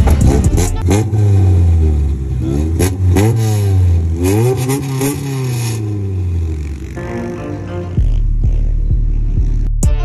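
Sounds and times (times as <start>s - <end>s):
car engine idling and revving: 0.0s - 9.8s.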